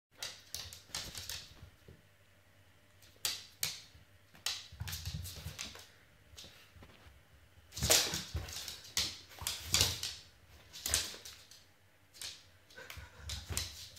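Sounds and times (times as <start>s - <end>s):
dog claws clicking on floor: 0.2s - 1.7s, 3.0s - 6.6s, 7.7s - 13.9s.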